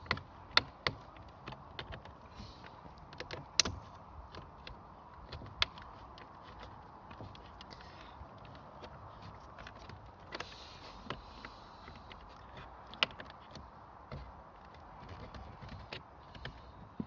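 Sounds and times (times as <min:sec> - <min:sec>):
tools clicking and knocking on trim: 0:00.0 - 0:17.0.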